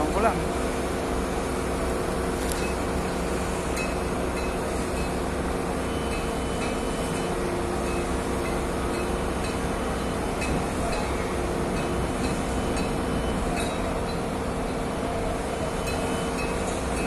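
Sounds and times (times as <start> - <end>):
construction machinery rumbling: 0.0 - 17.0.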